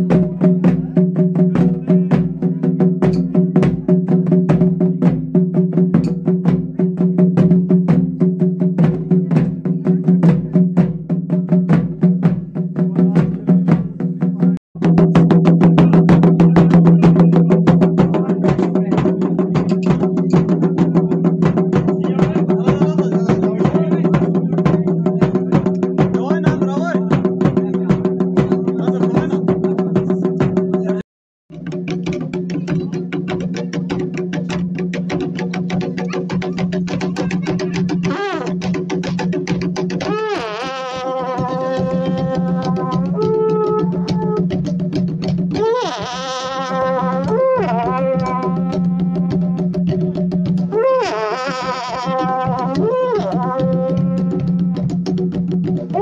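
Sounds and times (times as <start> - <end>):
fast even drumbeats: 0.0 - 56.0.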